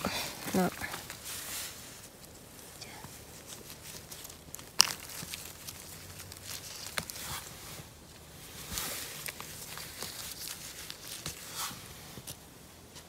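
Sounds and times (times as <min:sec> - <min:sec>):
gloved hand rustling in moss: 0:00.0 - 0:13.0.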